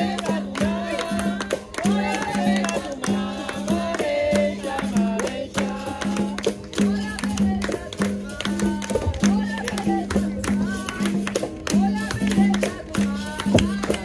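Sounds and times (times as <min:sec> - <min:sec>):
hand percussion: 0:00.0 - 0:14.0
people singing: 0:00.0 - 0:14.0.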